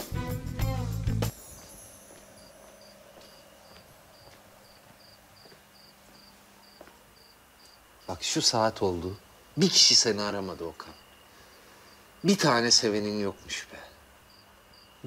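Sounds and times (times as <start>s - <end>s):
cricket chirping: 1.3s - 15.0s.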